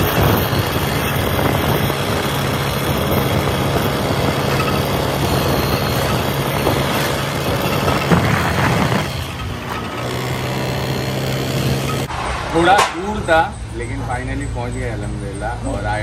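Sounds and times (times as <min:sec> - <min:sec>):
wind noise: 0:00.0 - 0:13.9
engine hum: 0:00.0 - 0:16.0
road noise: 0:00.0 - 0:16.0.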